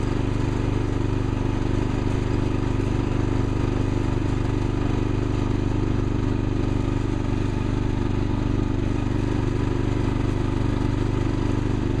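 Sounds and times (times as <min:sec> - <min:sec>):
tractor engine running steadily: 0:00.0 - 0:12.0.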